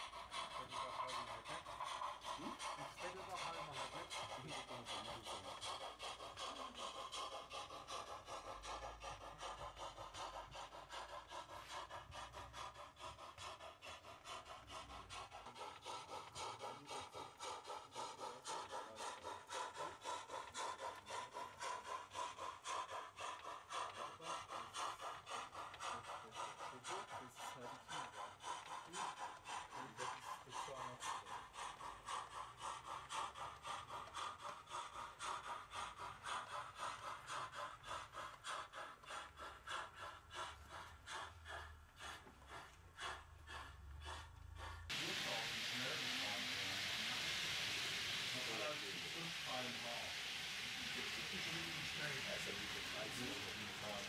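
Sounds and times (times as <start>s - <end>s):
model steam train rasping: 0.0s - 54.0s.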